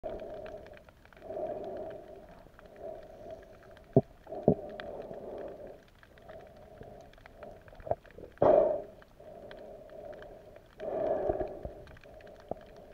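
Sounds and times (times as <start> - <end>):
faint crackling clicks: 0.0 - 12.9
low underwater rushing: 0.0 - 12.9.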